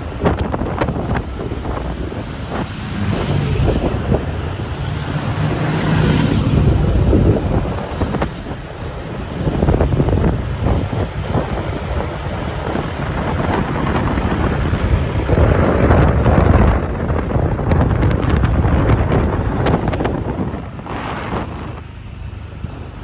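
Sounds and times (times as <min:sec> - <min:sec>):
road and traffic rumble: 0:00.0 - 0:23.0
wind buffeting microphone: 0:00.0 - 0:23.0.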